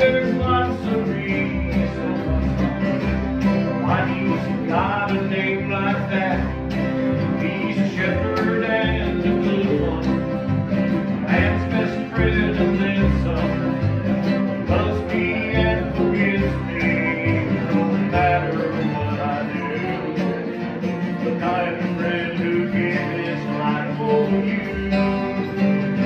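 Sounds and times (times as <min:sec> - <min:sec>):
acoustic bluegrass music: 0:00.0 - 0:26.0
plucked bass line: 0:00.0 - 0:26.0.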